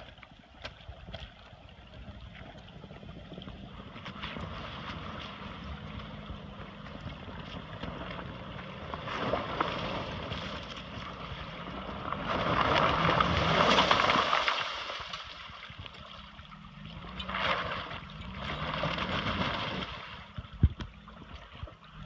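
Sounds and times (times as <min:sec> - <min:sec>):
tyres splashing through water: 0:00.0 - 0:22.0.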